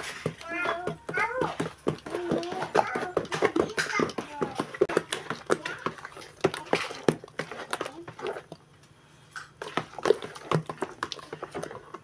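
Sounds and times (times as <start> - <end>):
spoon stirring thick batter: 0.0 - 12.0.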